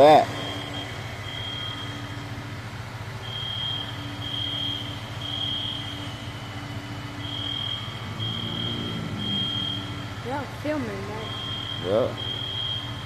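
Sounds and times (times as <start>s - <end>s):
smoke alarms beeping: 0.0s - 2.6s, 3.2s - 13.0s
idling vehicle engines: 0.0s - 13.0s.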